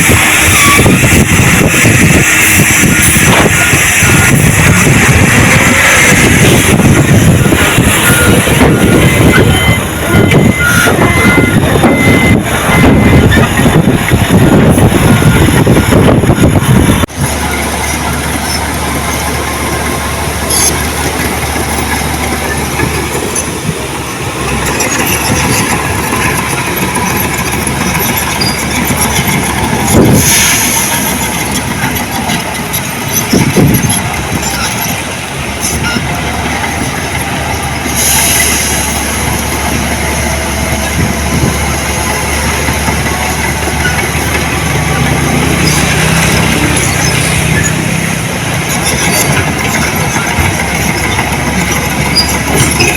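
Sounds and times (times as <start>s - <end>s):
heavy machinery diesel engine: 0.0s - 52.9s.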